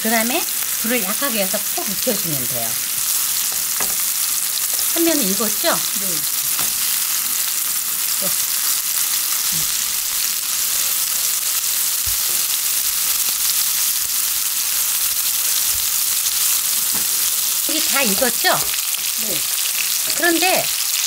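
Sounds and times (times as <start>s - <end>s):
patties sizzling in a frying pan: 0.0s - 21.0s.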